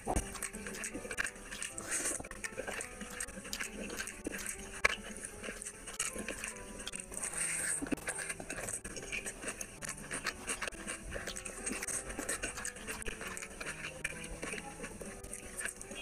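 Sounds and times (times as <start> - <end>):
wet chewing and lip smacking: 0.0 - 16.0.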